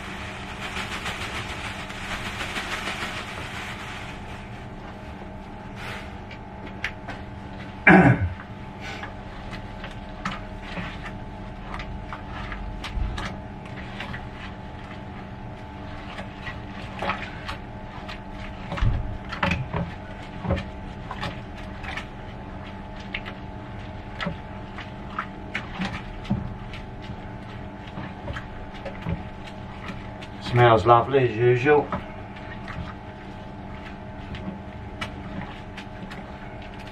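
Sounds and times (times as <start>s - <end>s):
steady hum: 0.0s - 36.9s.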